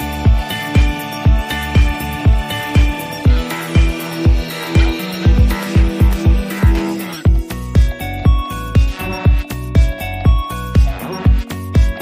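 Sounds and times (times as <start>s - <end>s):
music with heavy low beat: 0.0s - 12.0s.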